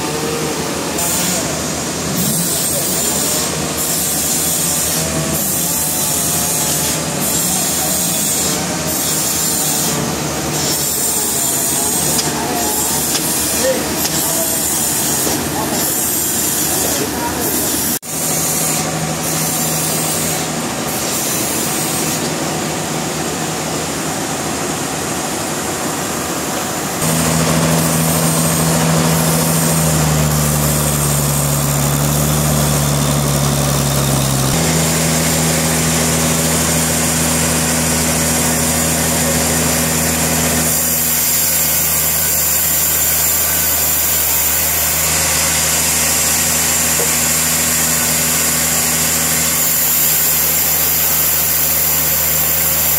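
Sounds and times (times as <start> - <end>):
sawmill engine and saw cutting log: 0.0 - 52.9.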